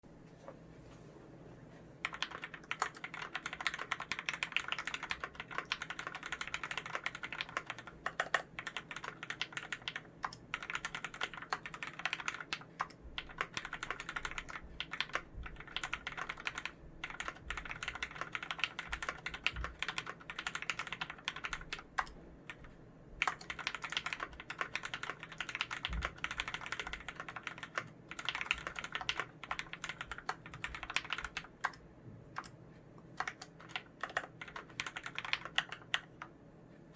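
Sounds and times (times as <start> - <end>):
mechanical keyboard typing: 2.0 - 36.4.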